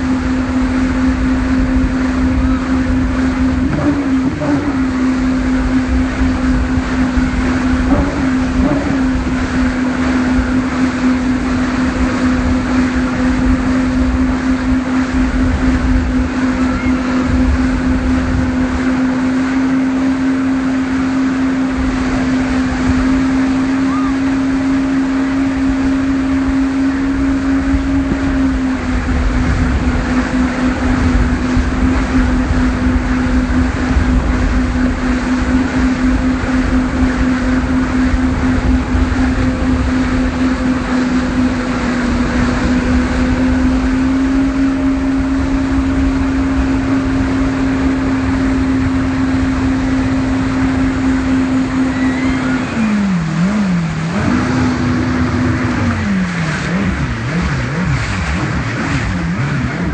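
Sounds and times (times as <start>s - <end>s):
wind buffeting microphone: 0.0s - 20.0s, 24.3s - 59.9s
rushing water: 0.0s - 59.9s
speedboat engine humming: 0.0s - 59.9s.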